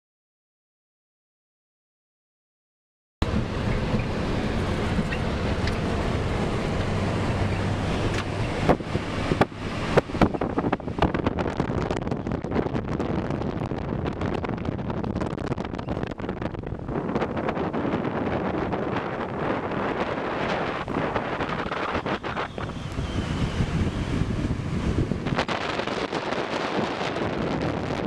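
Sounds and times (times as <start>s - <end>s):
road noise: 3.2s - 28.0s
truck engine hum: 3.2s - 28.0s
wind buffeting microphone: 3.2s - 28.0s.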